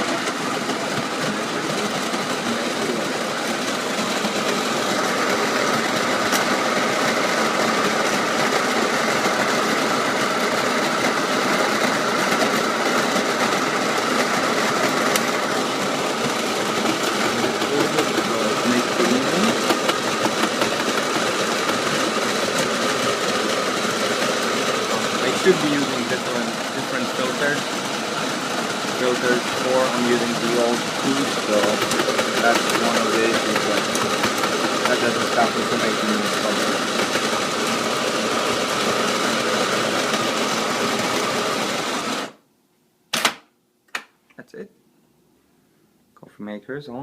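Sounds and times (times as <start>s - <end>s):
coffee grinder whirring: 0.0s - 42.4s.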